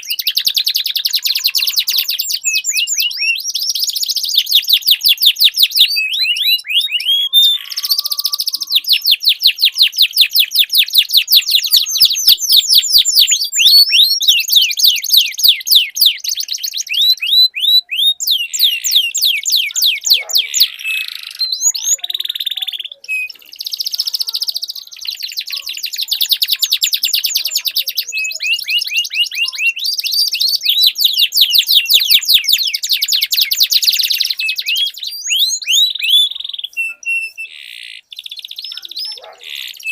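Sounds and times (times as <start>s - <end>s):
canaries singing rolling trills: 0.0s - 39.9s.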